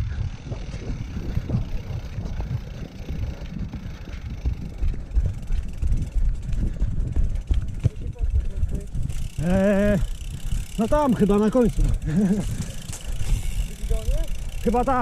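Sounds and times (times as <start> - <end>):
bike rattling and knocking: 0.0 - 15.0
wind rumble on microphone: 0.0 - 15.0.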